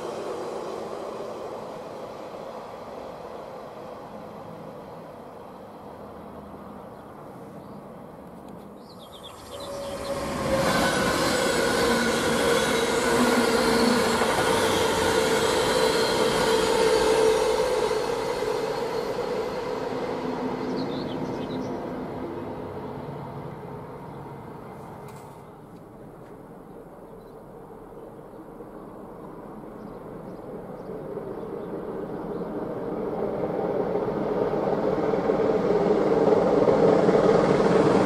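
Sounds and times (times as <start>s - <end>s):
passenger train passing: 0.0s - 38.0s
rumble of train wheels: 0.0s - 38.0s.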